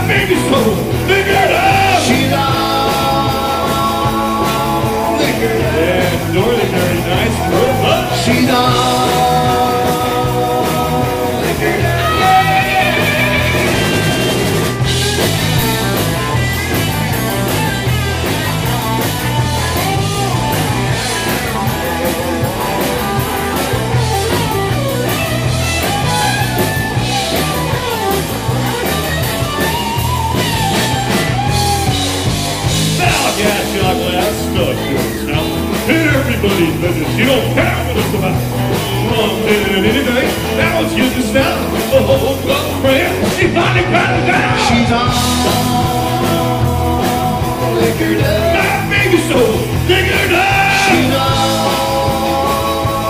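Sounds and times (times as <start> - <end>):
man singing lead: 0.0 - 27.7, 29.6 - 53.0
drum kit steady beat: 0.0 - 53.0
electric bass: 0.0 - 53.0
electric guitar: 0.0 - 53.0.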